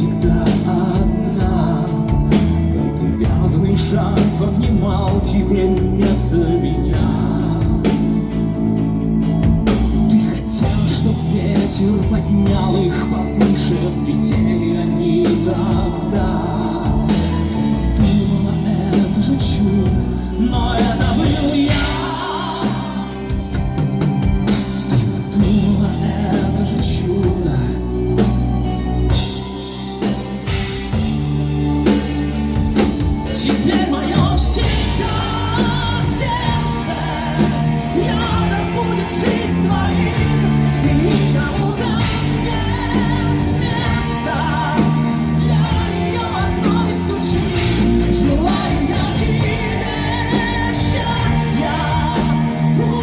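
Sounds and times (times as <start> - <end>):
person singing: 0.0 - 53.0
pop-rock band playing: 0.0 - 53.0.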